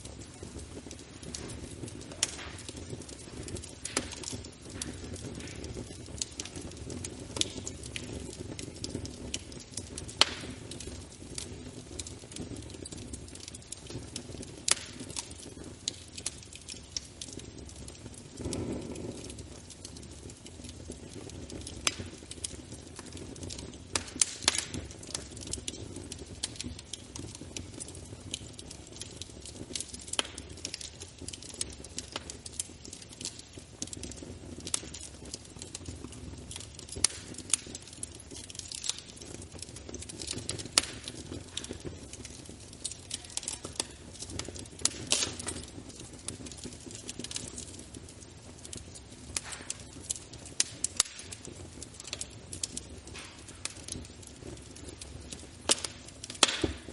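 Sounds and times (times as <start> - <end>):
fire popping and snapping: 0.0 - 56.9
wood fire crackling: 0.0 - 56.9.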